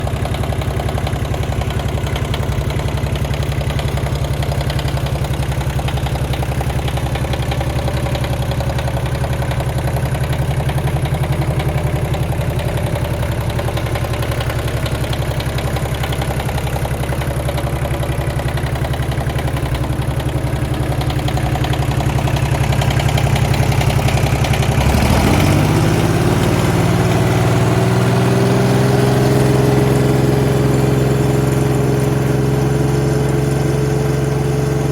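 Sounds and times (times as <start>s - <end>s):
tractor diesel engine: 0.0s - 34.9s.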